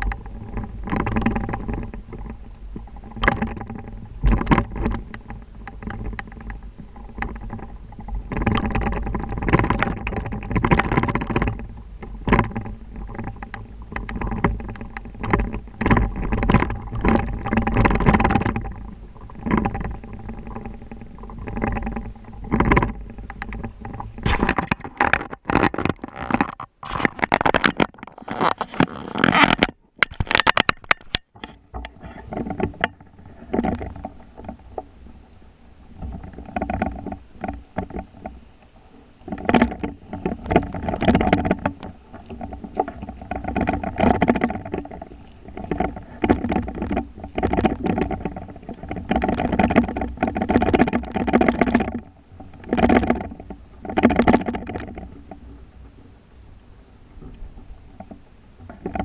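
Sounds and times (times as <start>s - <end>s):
rattles and knocks: 0.0s - 35.0s, 35.9s - 38.4s, 39.2s - 55.6s
wind rumbling on microphone: 0.0s - 59.0s.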